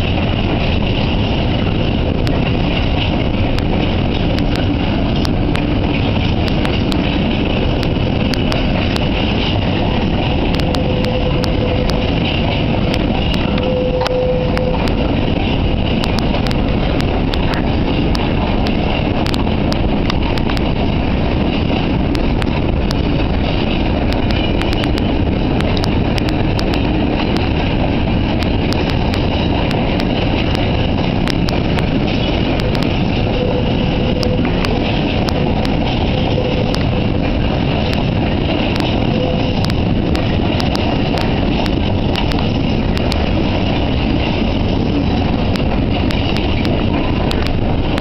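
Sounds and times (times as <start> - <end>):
freight train rushing: 0.0 - 48.0
steady whine: 0.0 - 48.0.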